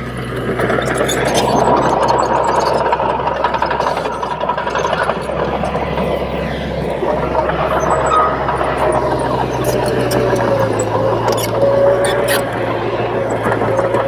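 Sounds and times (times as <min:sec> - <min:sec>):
bulldozer diesel engine running: 0:00.0 - 0:14.0
sustained whine: 0:00.0 - 0:14.0.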